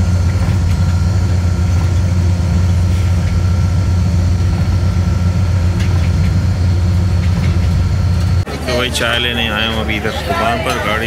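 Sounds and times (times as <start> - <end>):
diesel locomotive engine droning: 0.0 - 11.0.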